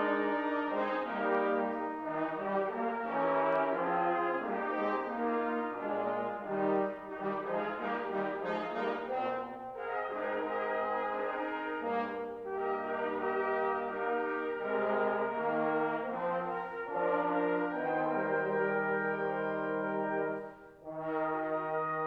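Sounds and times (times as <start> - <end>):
brass-toned instrumental music: 0.0 - 22.0.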